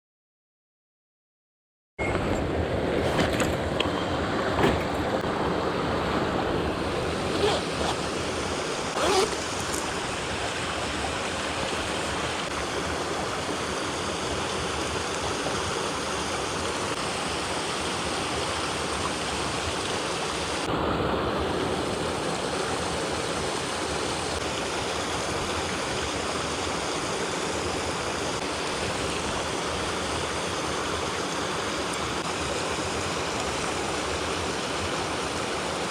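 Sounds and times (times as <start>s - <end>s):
water rushing over rocks: 2.6s - 35.9s.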